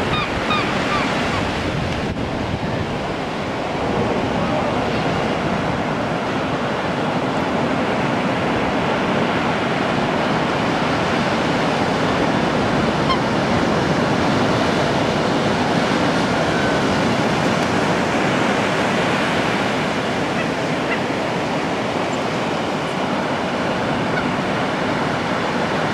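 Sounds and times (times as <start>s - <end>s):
surf washing up a sand beach: 0.0s - 25.9s.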